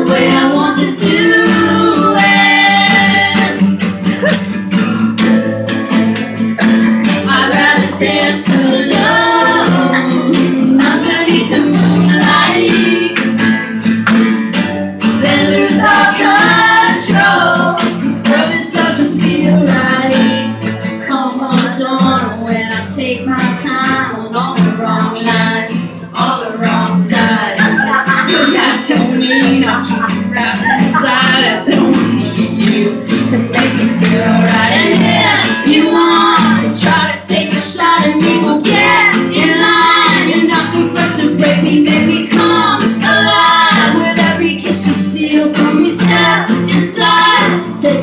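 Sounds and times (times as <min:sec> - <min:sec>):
person singing: 0:00.0 - 0:04.6, 0:06.0 - 0:13.4, 0:15.1 - 0:48.0
acoustic guitars strummed: 0:00.0 - 0:48.0.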